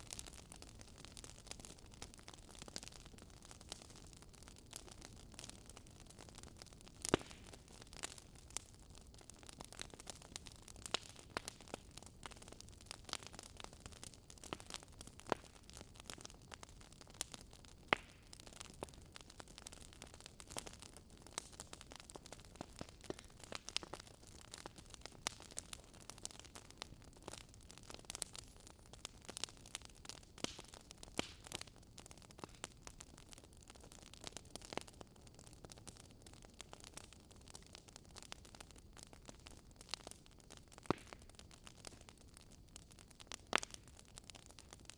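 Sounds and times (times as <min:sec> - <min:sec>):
campfire crackling: 0:00.0 - 0:44.9
pops and snaps of burning wood: 0:00.0 - 0:44.9.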